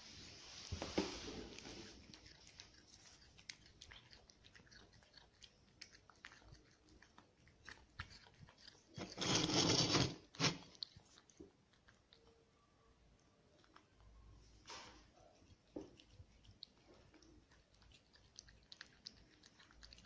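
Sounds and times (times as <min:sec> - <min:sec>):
cat chewing and licking: 0:00.1 - 0:20.0.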